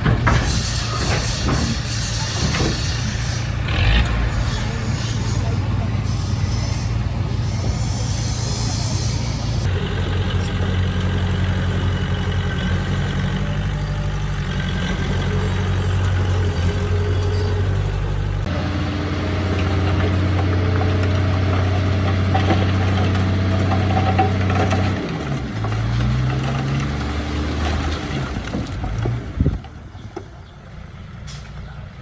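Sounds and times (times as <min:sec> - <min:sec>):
heavy diesel engine droning: 0:00.0 - 0:32.0.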